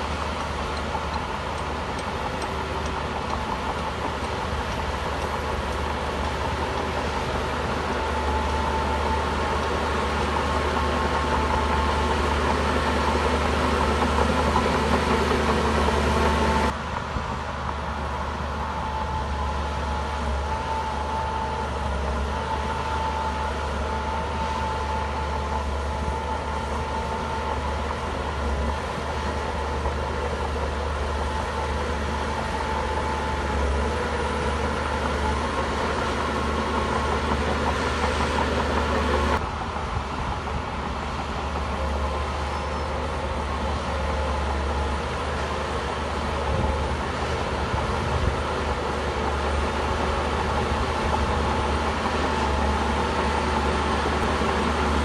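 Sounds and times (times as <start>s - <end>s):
bulldozer diesel engine humming: 0.0s - 55.0s.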